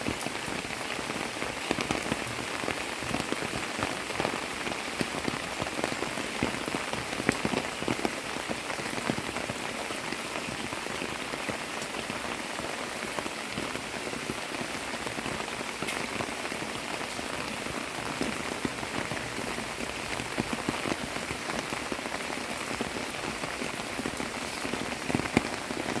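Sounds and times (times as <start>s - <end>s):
heavy rain falling: 0.0s - 26.0s
raindrops pattering on surfaces: 0.0s - 26.0s.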